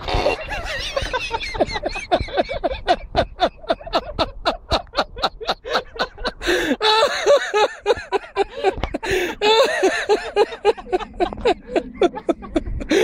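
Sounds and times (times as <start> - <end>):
men laughing hard: 0.0 - 13.0.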